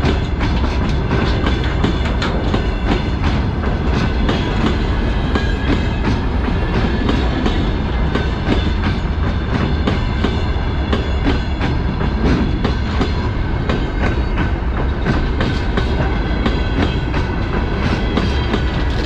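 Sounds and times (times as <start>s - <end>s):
freight train rumbling: 0.0s - 19.0s
wheels clacking over rails: 0.0s - 19.0s.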